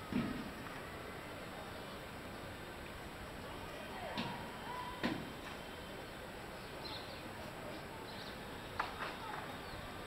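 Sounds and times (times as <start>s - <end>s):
city background noise: 0.0s - 10.0s.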